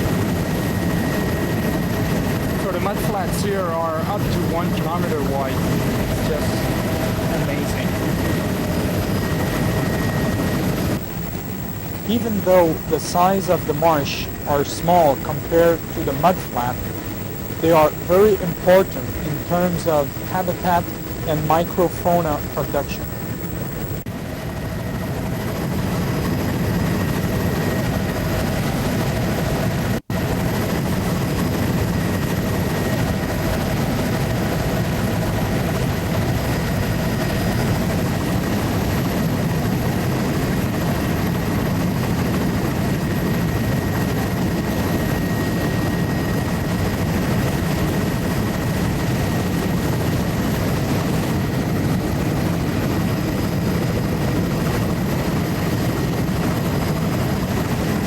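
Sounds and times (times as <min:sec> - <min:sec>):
aircraft cabin engine noise: 0:00.0 - 0:58.0.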